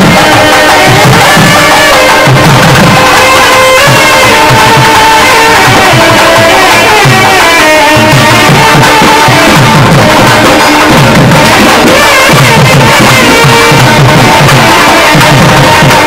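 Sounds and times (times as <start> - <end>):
drum strokes: 0.0 - 16.0
reed pipes playing melody: 0.0 - 16.0.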